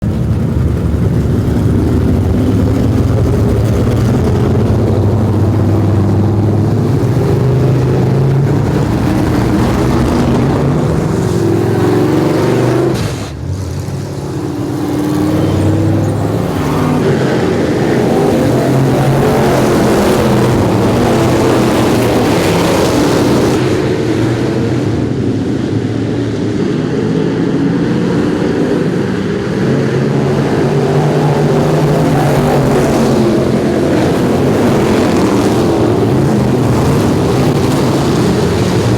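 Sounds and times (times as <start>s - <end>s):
race car engines: 0.0s - 38.9s.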